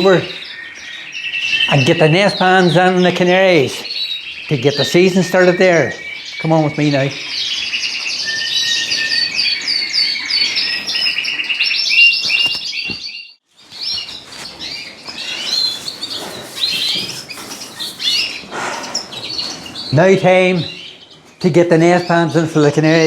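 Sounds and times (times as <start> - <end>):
canaries and finches singing: 0.0 - 23.0.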